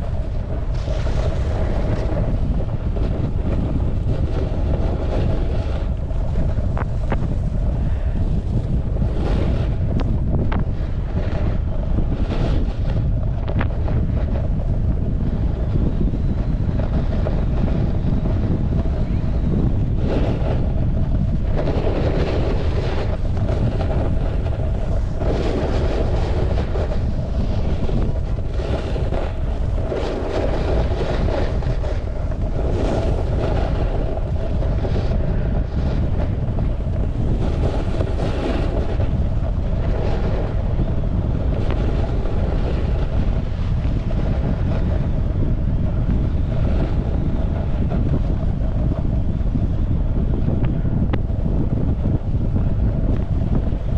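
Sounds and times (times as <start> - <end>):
snowboard scraping over snow: 0.0 - 53.9
wind buffeting microphone: 0.0 - 53.9.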